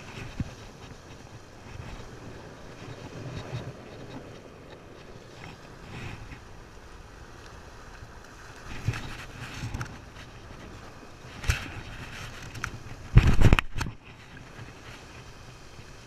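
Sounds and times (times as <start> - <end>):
water: 0.0 - 16.0
wind: 0.0 - 16.0.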